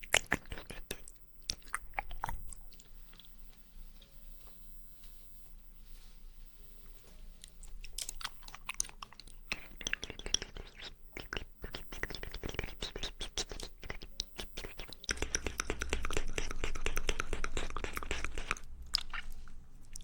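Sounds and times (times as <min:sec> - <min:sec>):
wet chewing mouth sounds: 0:00.0 - 0:03.5, 0:07.4 - 0:20.0.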